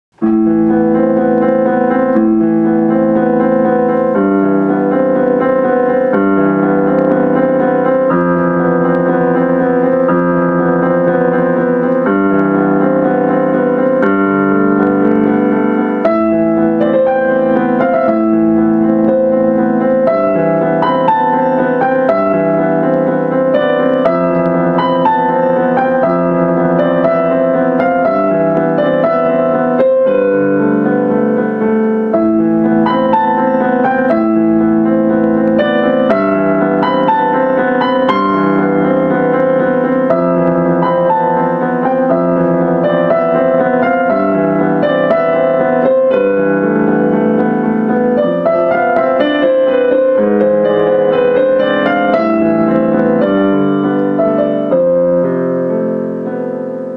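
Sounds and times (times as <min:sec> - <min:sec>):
digital piano melody: 0:00.1 - 0:56.9.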